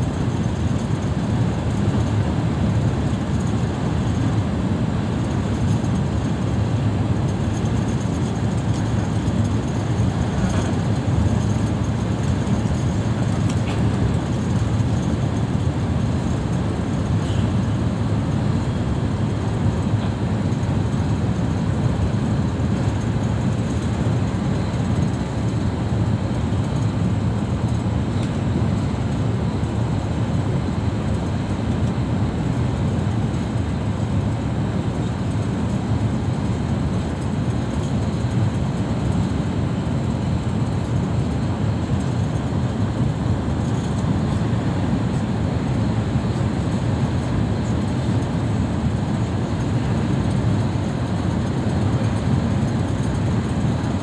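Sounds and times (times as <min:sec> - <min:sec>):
vehicle engine rumble: 0:00.1 - 0:54.0.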